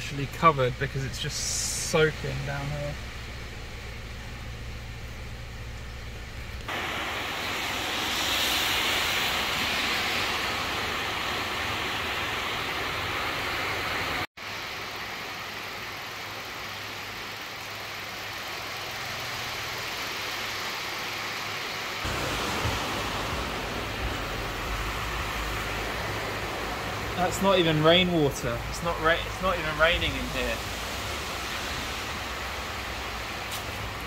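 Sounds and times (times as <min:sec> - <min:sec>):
steady rain: 0:06.5 - 0:34.0.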